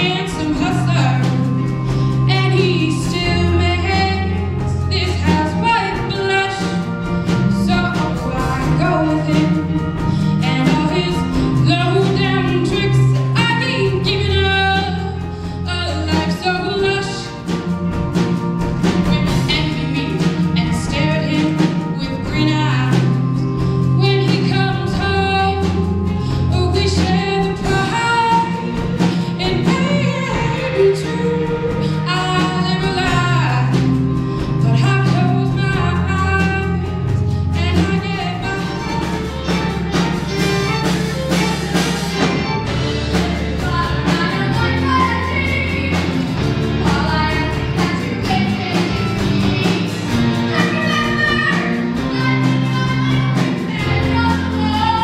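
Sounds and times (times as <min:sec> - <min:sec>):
band playing with bass and beat: 0:00.0 - 0:55.0.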